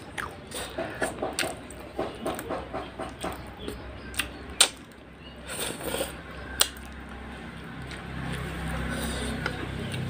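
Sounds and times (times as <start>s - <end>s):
chewing and mouth smacks: 0.0s - 2.4s, 3.0s - 5.0s, 5.6s - 10.0s.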